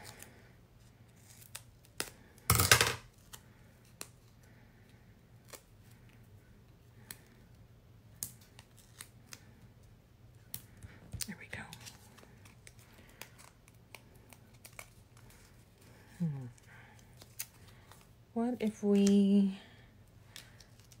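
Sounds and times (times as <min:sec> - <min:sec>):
clicks and rustles of foam tape: 0:00.0 - 0:06.2, 0:06.9 - 0:18.1, 0:20.3 - 0:21.0.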